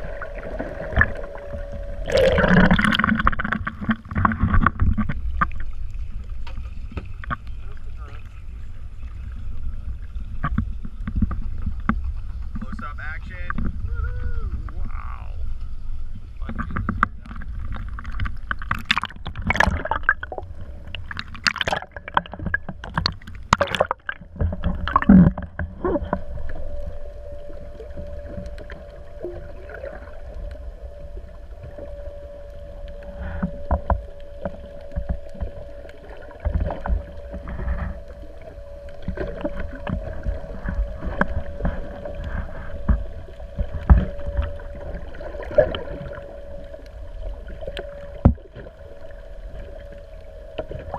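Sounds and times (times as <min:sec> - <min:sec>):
low rumble: 0:00.0 - 0:50.9
steady hum: 0:00.0 - 0:50.9.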